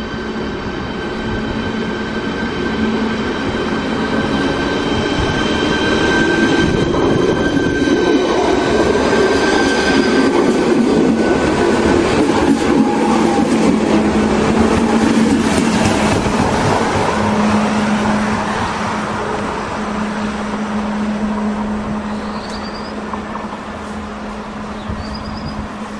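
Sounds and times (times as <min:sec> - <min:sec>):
electric train passing: 0:00.0 - 0:25.9.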